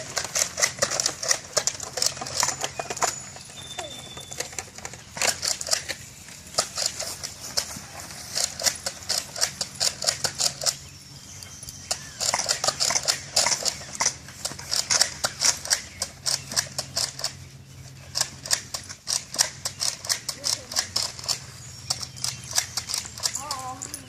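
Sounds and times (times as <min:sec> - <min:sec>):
sharp clicks and crunches: 0:00.0 - 0:24.0.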